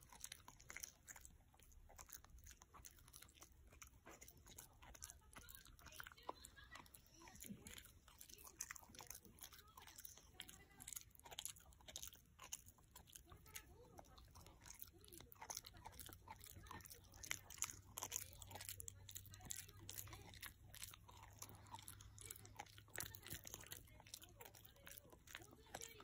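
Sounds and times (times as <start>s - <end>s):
dog teeth crunching on chew: 0.0s - 26.0s.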